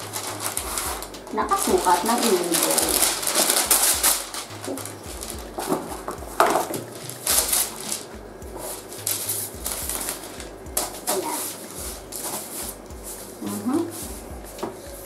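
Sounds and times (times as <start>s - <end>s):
parchment paper rustling: 0.0s - 15.0s.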